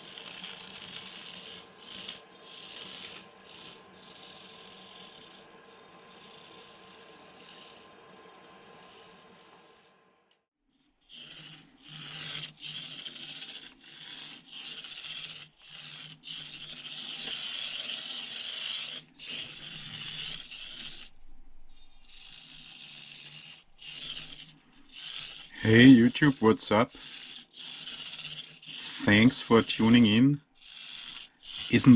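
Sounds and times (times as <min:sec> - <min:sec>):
toy car electric motor whirring: 0:00.0 - 0:10.0, 0:10.8 - 0:31.9.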